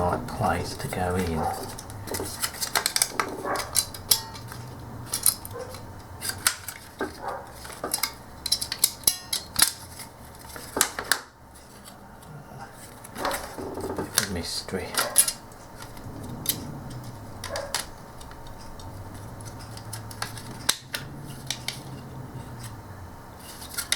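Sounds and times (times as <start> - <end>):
small clicks and scrapes of spring: 1.5 - 14.4, 15.0 - 22.8, 23.4 - 23.9.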